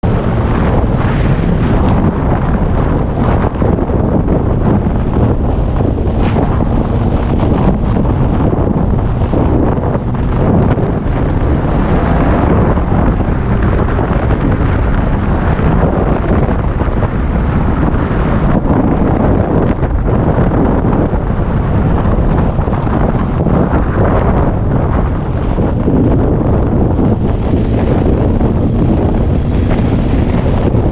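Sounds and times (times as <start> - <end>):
heavy wind buffeting microphone: 0.0 - 30.9.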